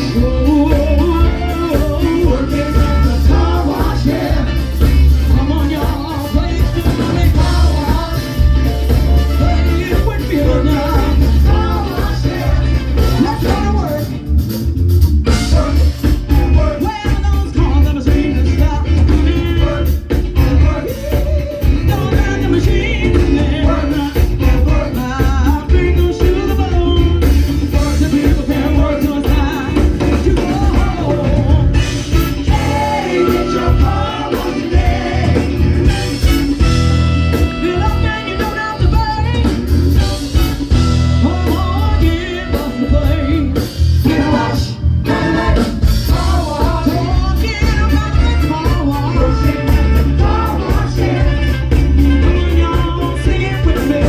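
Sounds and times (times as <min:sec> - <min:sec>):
bass: 0:00.0 - 0:54.0
drum kit beat: 0:00.0 - 0:54.0.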